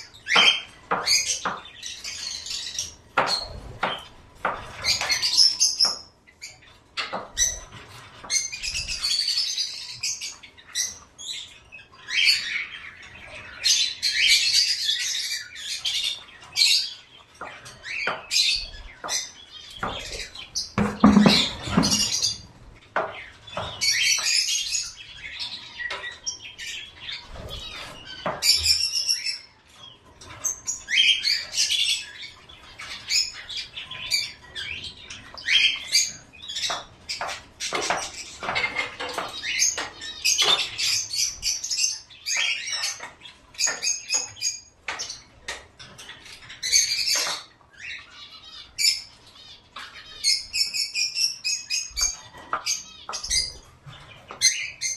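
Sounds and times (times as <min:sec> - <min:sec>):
pet birds chirping and squawking: 0:00.0 - 0:54.9.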